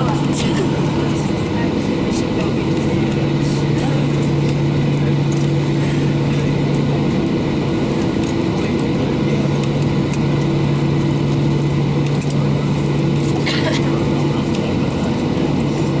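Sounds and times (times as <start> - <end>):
airplane cabin machine hum: 0.0 - 16.0.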